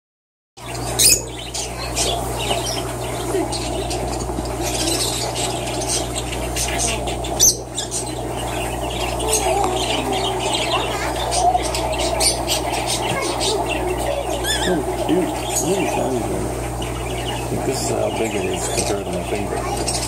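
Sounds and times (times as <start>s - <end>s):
birds chirping and squawking: 0.6s - 20.0s
steady low hum: 0.6s - 20.0s.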